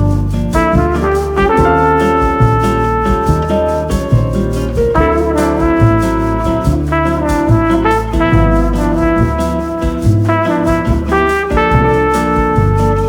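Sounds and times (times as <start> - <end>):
instrumental bossa nova music: 0.0 - 13.0.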